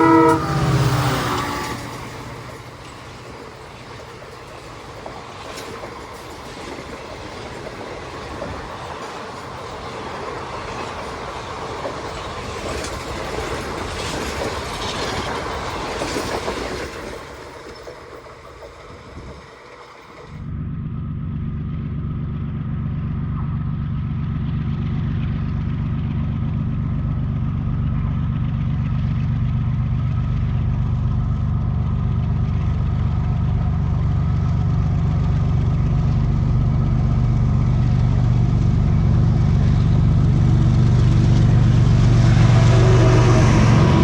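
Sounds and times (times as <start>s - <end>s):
diesel locomotive engine throbbing: 0.0s - 44.0s.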